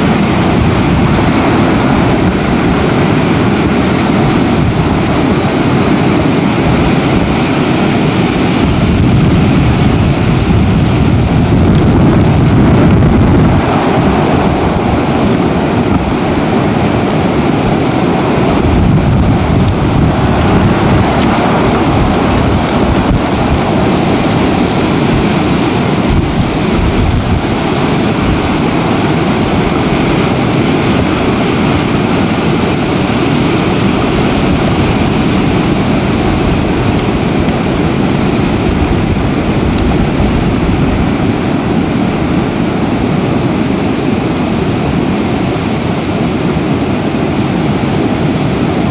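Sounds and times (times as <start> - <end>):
strong wind buffeting microphone: 0.0 - 48.9.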